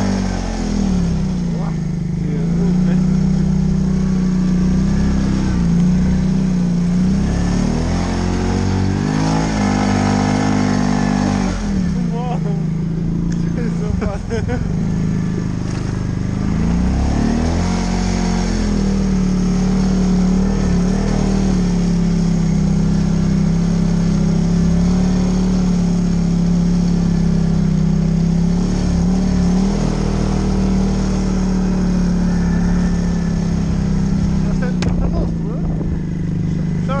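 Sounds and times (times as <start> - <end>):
atv engine accelerating: 0.0 - 37.0.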